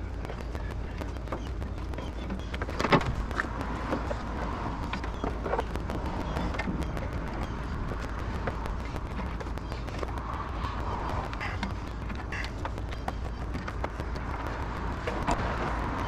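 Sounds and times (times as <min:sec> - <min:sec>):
low hum: 0:00.0 - 0:16.0
rain falling: 0:00.0 - 0:16.0.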